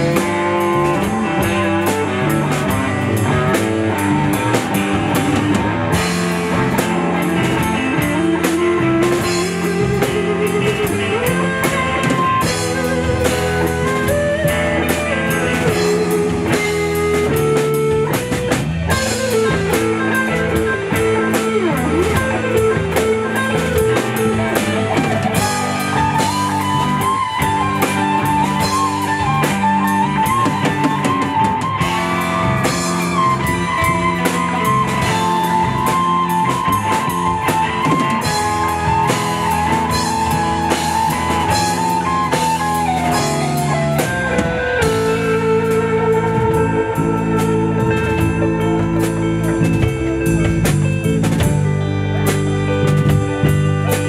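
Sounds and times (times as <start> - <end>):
rock band playing: 0.0 - 54.0
sliding lead guitar melody: 0.0 - 54.0.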